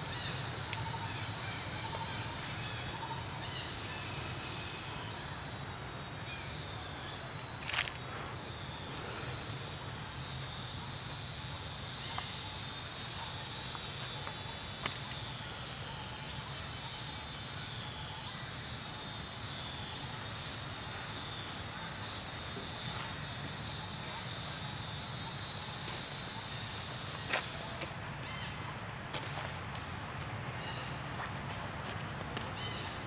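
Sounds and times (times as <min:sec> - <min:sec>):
high insect drone: 0:00.0 - 0:28.5.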